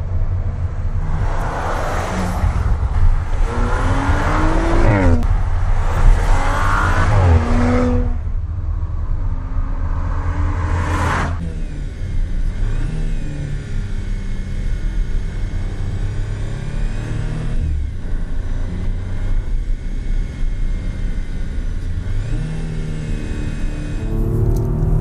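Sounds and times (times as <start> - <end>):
car engine and exhaust revving: 0.0 - 25.0.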